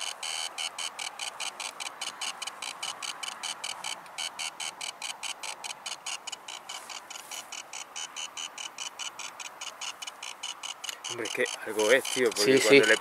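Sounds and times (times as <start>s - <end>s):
rapid electronic ticking: 0.0s - 13.0s.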